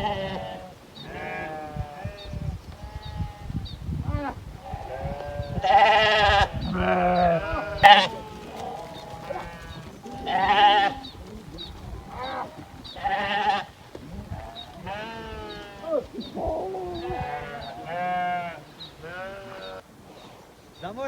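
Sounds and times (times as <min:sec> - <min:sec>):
sheep bleating: 0:00.0 - 0:19.8.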